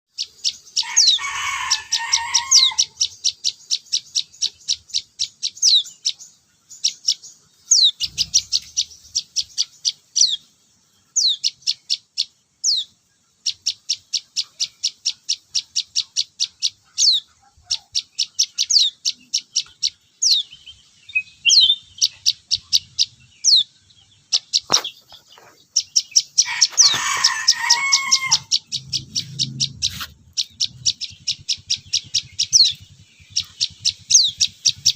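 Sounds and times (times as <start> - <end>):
young bird chirping: 0.1 - 34.9.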